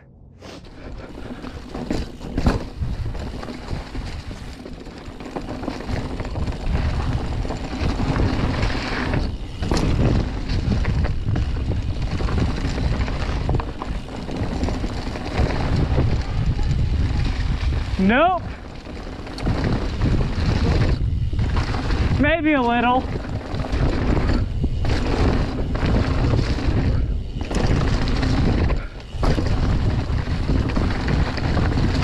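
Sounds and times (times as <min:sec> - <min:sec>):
bike rumble and rattle: 0:00.0 - 0:32.0
wind buffeting microphone: 0:00.0 - 0:32.0.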